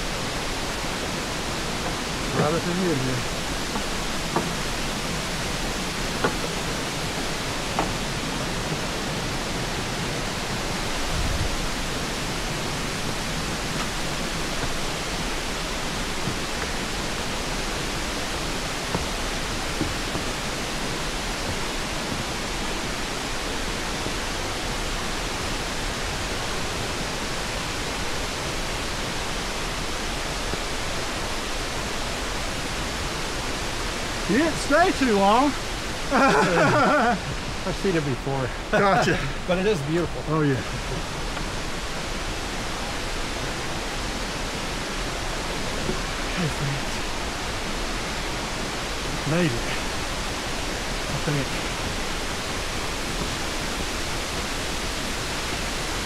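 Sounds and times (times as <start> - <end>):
rushing creek and waterfall: 0.0 - 56.0.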